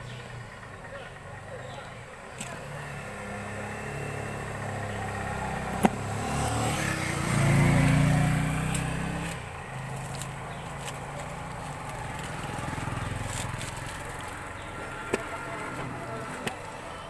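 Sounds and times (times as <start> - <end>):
vehicle engine passing by: 2.5 - 17.0.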